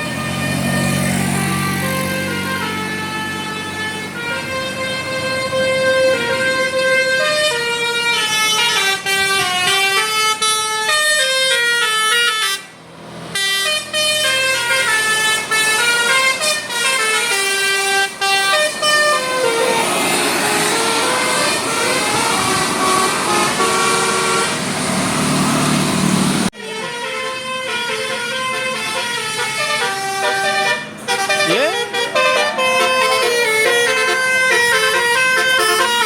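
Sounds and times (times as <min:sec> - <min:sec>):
musical air horn melody: 0:00.0 - 0:12.7, 0:13.3 - 0:24.6, 0:26.5 - 0:36.0.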